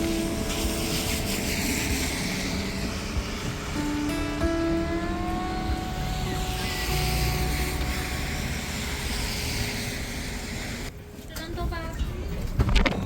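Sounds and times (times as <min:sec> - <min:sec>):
bus motor whine: 0:00.0 - 0:10.9
road rumble: 0:00.0 - 0:13.0.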